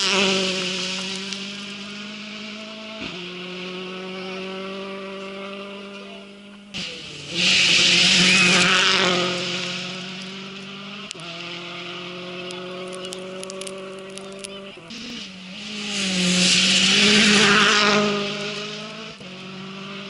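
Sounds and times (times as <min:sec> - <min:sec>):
rally car passing on gravel: 0:00.0 - 0:20.0.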